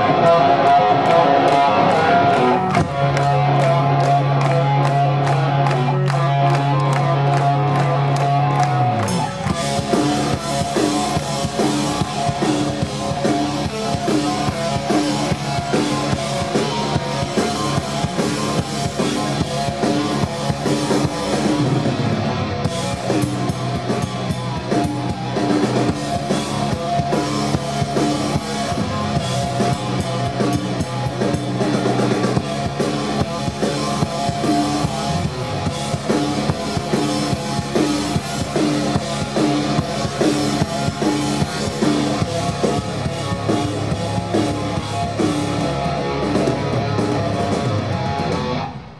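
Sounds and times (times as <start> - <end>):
bass guitar: 0.0 - 48.9
drums: 0.0 - 48.9
electric guitar chords: 0.0 - 48.9.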